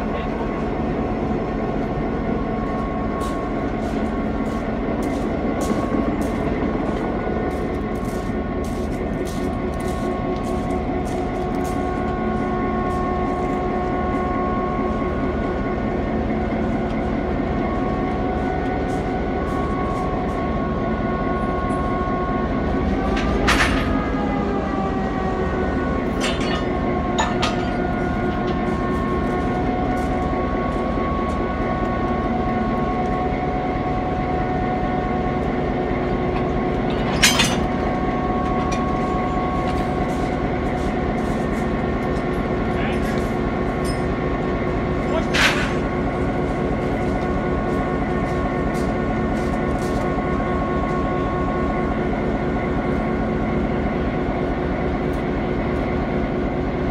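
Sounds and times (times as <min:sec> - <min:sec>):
locomotive diesel engine running: 0:00.0 - 0:56.9.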